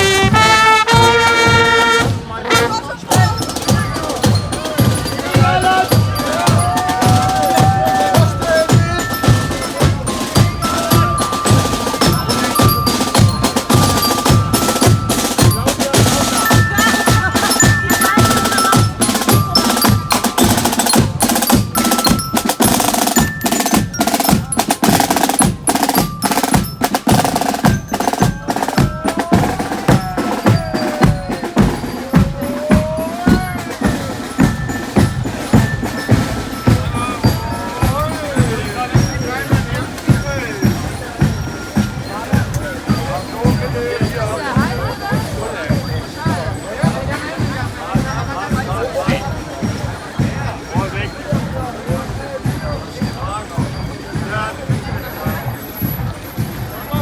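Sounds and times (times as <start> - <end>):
drum beat: 0.0 - 57.0
marching band playing: 0.0 - 57.0.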